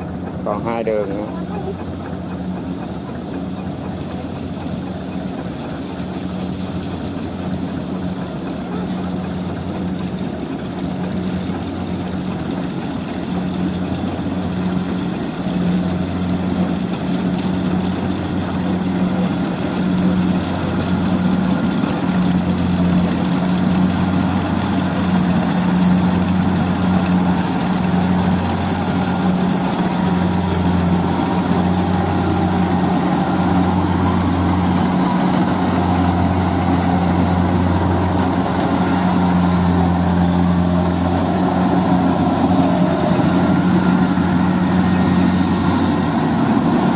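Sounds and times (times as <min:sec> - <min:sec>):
combine harvester diesel engine: 0:00.0 - 0:46.9.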